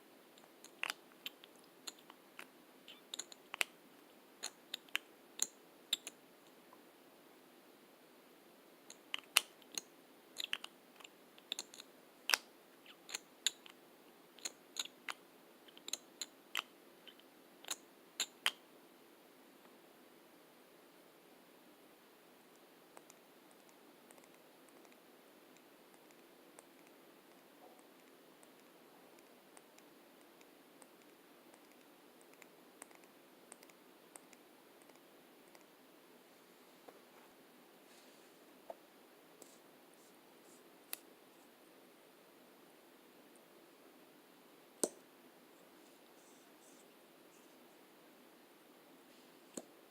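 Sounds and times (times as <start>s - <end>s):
low hiss: 0.0s - 49.9s.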